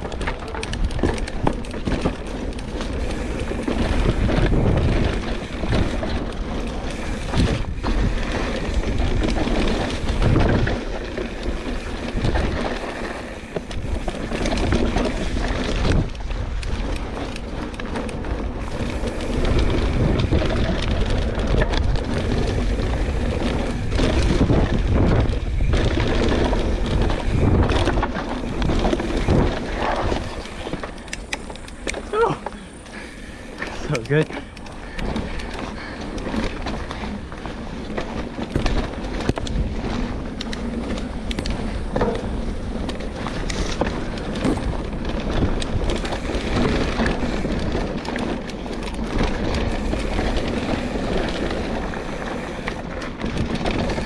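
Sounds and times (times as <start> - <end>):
bike knocks and rattles: 0.0 - 54.0
tyres rumbling on dirt: 0.0 - 54.0
wind buffeting microphone: 0.0 - 54.0.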